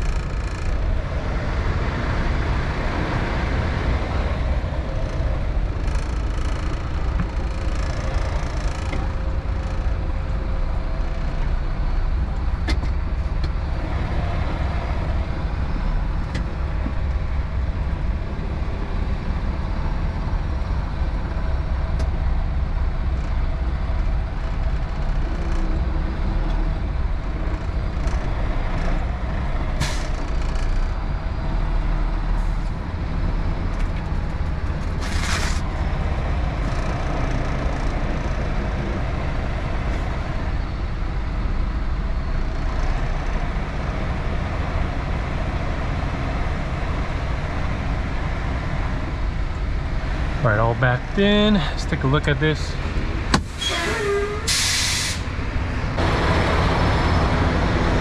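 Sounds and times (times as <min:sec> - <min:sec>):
diesel engine low rumble: 0:00.0 - 0:58.0.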